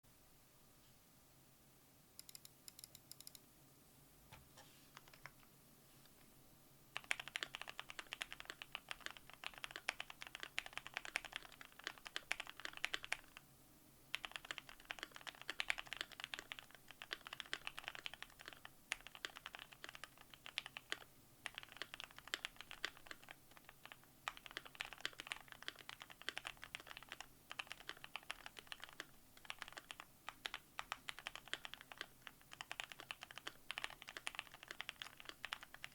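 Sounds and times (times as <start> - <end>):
mechanical keyboard typing: 2.2 - 3.4, 5.0 - 5.4, 7.0 - 13.4, 14.1 - 35.9.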